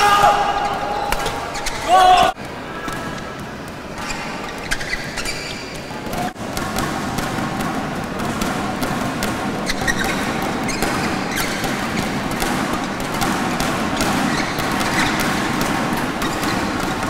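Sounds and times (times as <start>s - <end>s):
crowd noise in large hall: 0.0s - 17.0s
rackets hitting shuttlecock: 0.2s - 17.0s.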